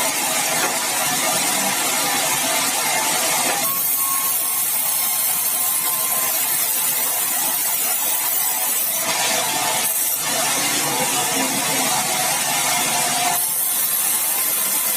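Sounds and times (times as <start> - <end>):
saw cutting timber: 0.0 - 14.9.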